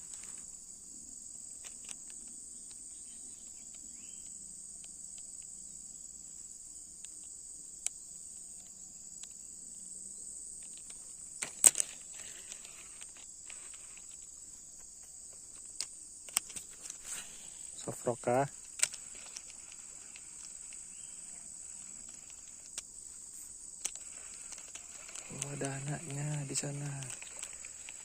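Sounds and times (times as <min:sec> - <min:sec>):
insects chirring: 0:00.0 - 0:28.0
faint clicks: 0:01.5 - 0:05.6, 0:06.3 - 0:09.8, 0:10.4 - 0:28.0.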